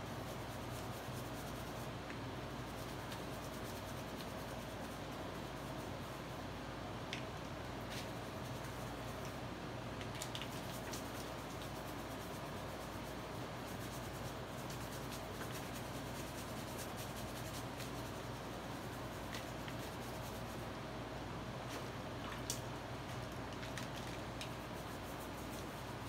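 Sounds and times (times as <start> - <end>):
soft paintbrush strokes: 0.0 - 26.0
steady low hum: 0.0 - 26.0.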